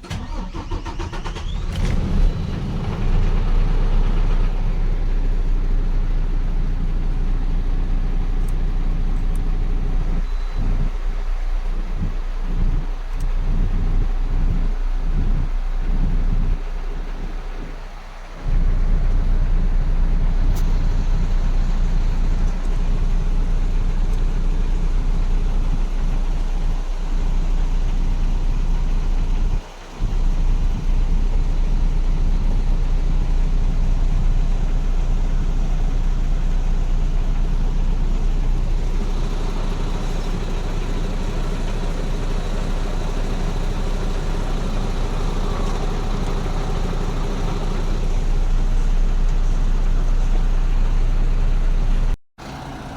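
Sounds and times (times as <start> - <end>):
truck diesel engine idling: 0.0 - 52.9.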